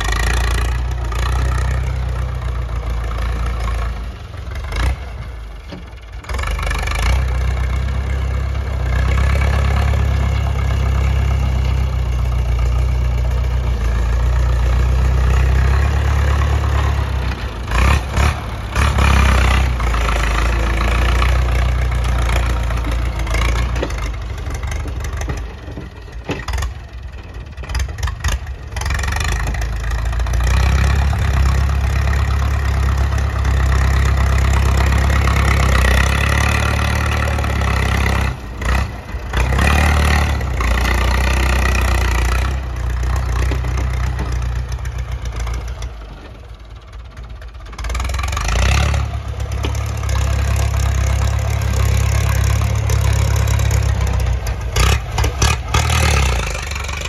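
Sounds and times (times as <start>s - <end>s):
dozer blade pushing soil: 0.0s - 46.6s, 47.7s - 57.0s
tractor engine under load: 0.0s - 57.0s.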